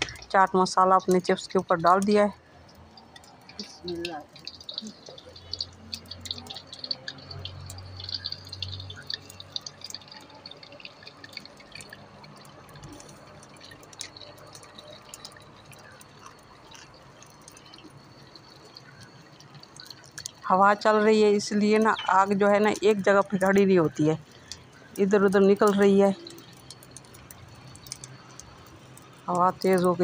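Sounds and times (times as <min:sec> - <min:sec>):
chips deep-frying in oil: 0:00.0 - 0:30.0.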